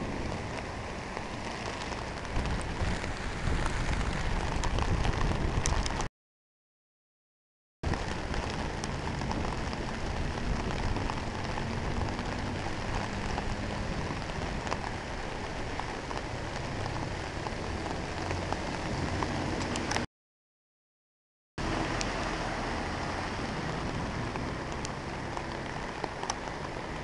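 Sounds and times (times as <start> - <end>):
sharp ticks of raindrops: 0.0 - 6.1, 7.8 - 20.1, 21.6 - 27.0
steady rain falling: 0.0 - 6.1, 7.8 - 20.1, 21.6 - 27.0.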